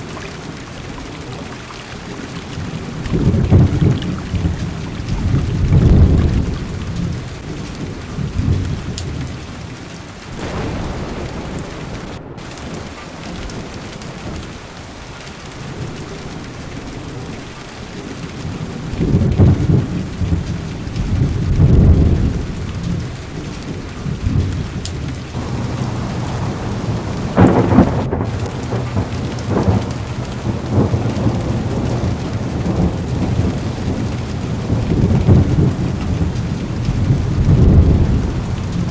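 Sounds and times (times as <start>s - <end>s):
heavy rain on car roof: 0.0s - 38.9s
thunder rumbling: 2.6s - 9.3s, 10.4s - 38.9s.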